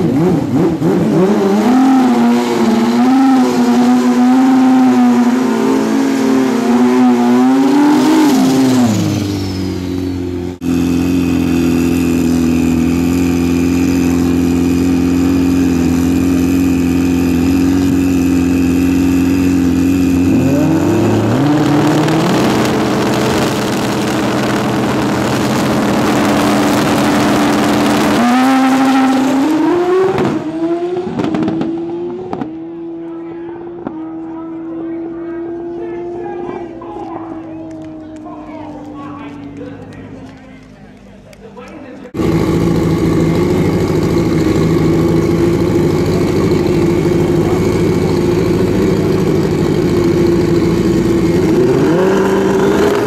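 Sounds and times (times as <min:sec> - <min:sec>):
motorcycle engines revving and idling: 0:00.0 - 0:53.0.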